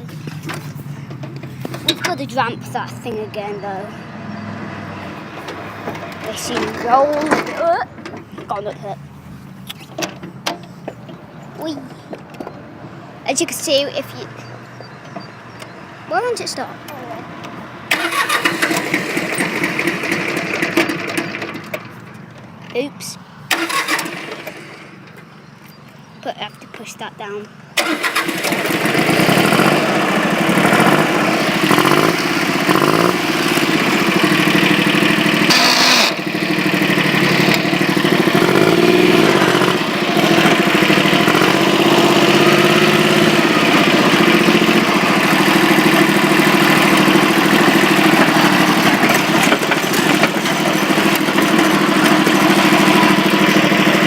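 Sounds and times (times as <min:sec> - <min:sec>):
small tractor engine running: 0:00.0 - 0:12.6, 0:13.3 - 0:22.9, 0:23.5 - 0:25.6, 0:26.5 - 0:54.0.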